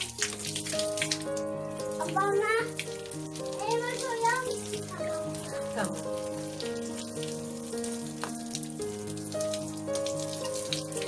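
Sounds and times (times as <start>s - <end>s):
soft background music: 0.0s - 11.0s
water trickling from a tap: 0.0s - 11.0s.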